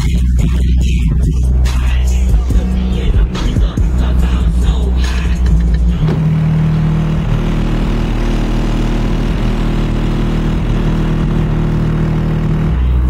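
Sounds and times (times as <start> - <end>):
bass-heavy hip-hop music: 0.0 - 13.0.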